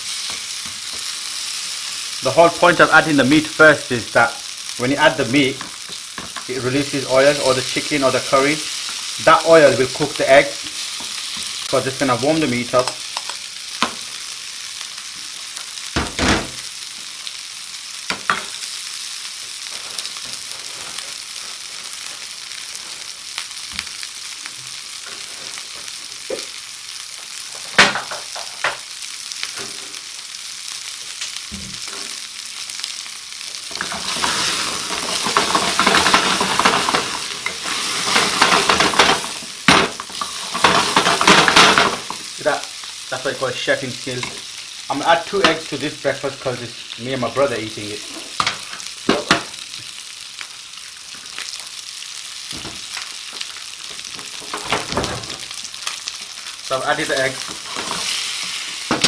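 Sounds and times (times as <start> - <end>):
curry sizzling in a frying pan: 0.0 - 59.0.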